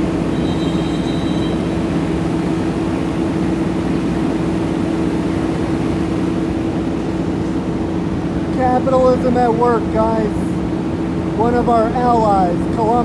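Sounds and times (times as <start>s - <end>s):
diesel paving machinery drone: 0.0s - 13.0s.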